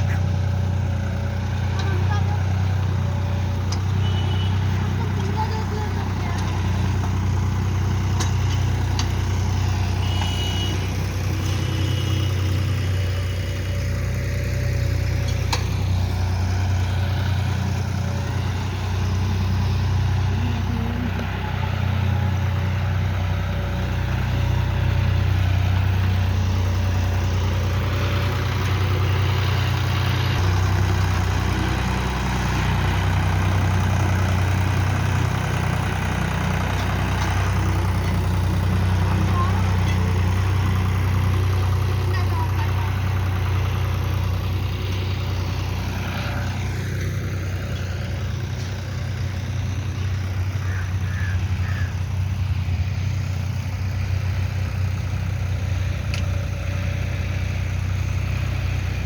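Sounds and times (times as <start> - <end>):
tractor engine droning: 0.0 - 59.0.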